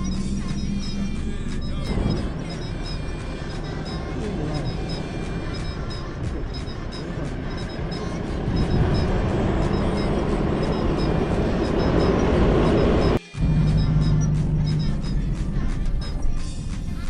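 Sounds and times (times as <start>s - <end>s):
faint background music: 0.0s - 17.0s
vehicle engine under load: 0.0s - 17.0s.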